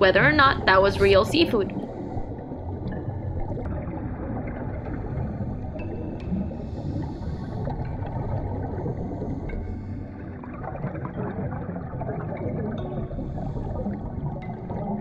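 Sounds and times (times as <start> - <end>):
dull underwater rushing: 0.0 - 15.0.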